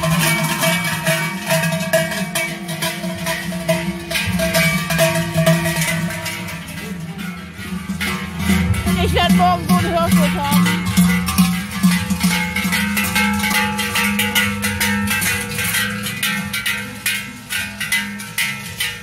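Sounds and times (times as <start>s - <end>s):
large cowbells clanging: 0.0s - 19.0s.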